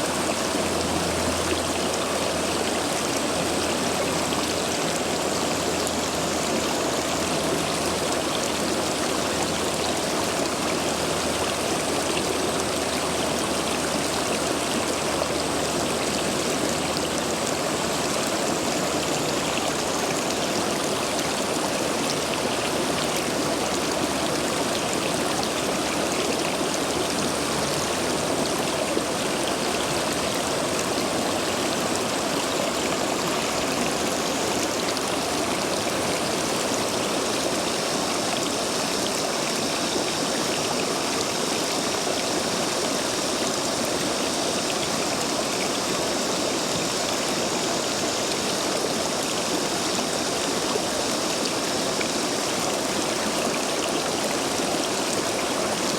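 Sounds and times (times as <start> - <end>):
stream rushing over stones: 0.0 - 55.9.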